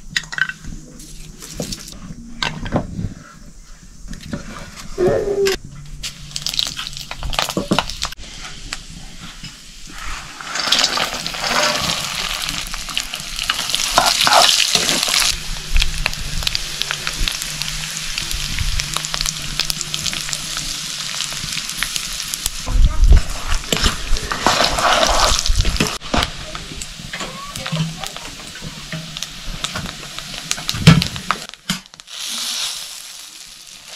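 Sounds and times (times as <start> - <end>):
food sizzling in a hot pan: 6.0 - 33.9.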